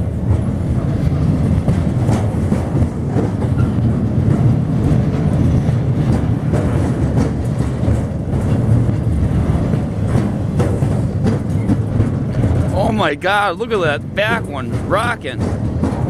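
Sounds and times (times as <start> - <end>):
clacks and knocks from wheels: 0.0 - 12.9, 13.6 - 16.0
train wheels rumbling on rails: 0.0 - 16.0.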